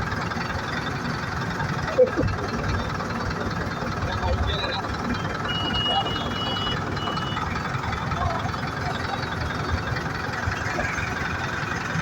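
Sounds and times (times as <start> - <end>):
road traffic noise: 0.0 - 12.0
vehicle engine running: 0.0 - 12.0.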